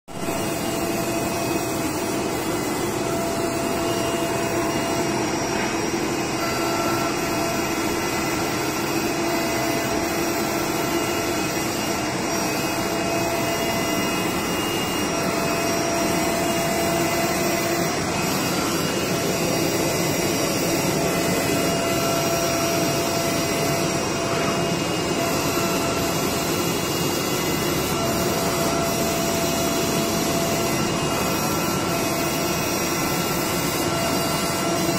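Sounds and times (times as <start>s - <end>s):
vacuum blower rushing: 0.1s - 34.9s
faint whine of cutting head: 0.2s - 8.4s, 10.8s - 34.9s.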